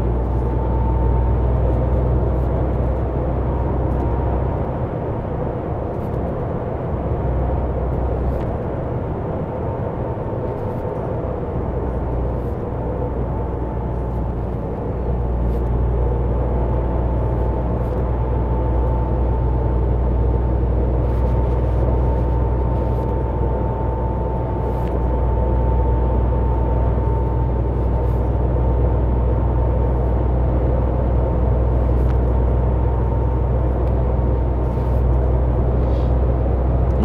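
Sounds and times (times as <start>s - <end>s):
road noise: 0.0s - 37.0s
truck engine drone: 0.0s - 37.0s.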